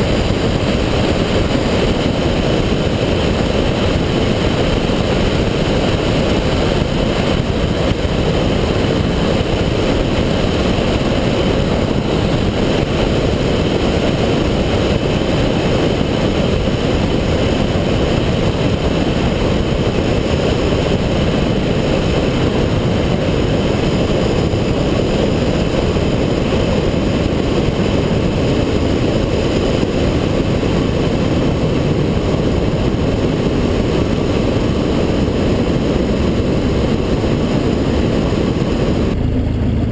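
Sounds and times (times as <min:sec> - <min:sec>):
propeller plane engine rumble: 0:00.0 - 0:39.9
wind rush on microphone: 0:00.0 - 0:39.9.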